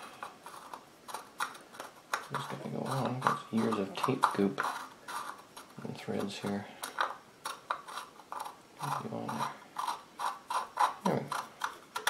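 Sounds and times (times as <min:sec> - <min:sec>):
gritty scraping of threads: 0:00.0 - 0:12.0.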